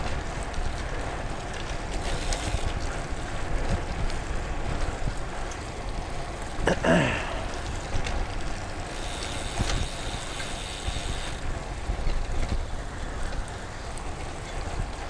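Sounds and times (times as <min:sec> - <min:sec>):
bicycle tyres hissing on wet pavement: 0:00.0 - 0:15.0.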